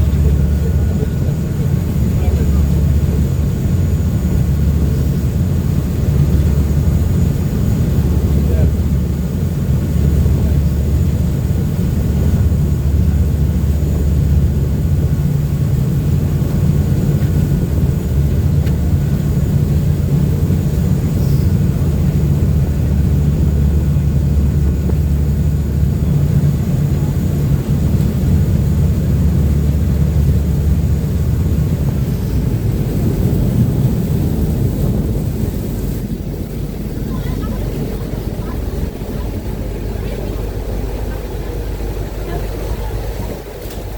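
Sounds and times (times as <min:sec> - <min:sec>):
boat engines droning: 0:00.0 - 0:43.9.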